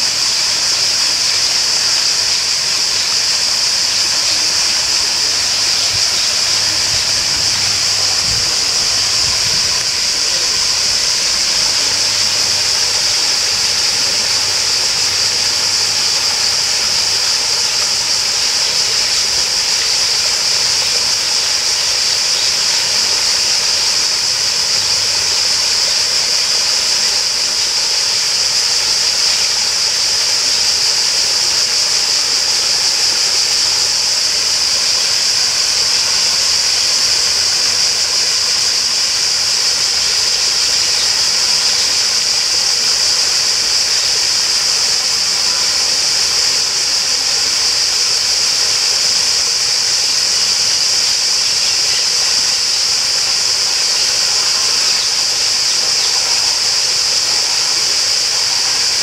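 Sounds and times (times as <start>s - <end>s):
flowing water rushing: 0.0s - 59.0s
high-pitched buzzing hiss: 0.0s - 59.0s.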